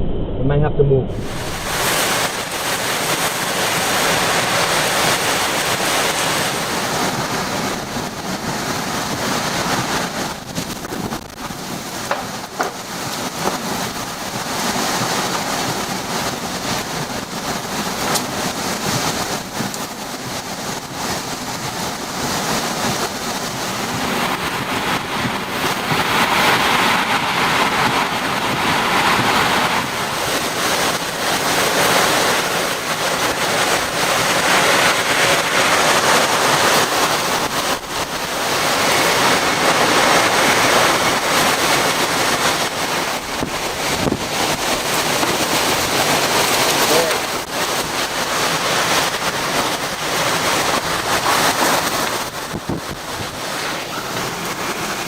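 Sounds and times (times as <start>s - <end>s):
strong wind gusts: 0.0s - 55.0s.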